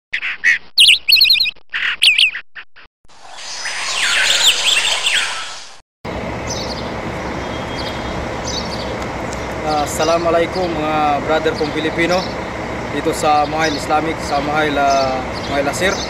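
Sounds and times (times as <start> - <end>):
birds chirping: 0.2 - 5.8, 6.4 - 16.0
outdoor background noise: 3.1 - 16.0.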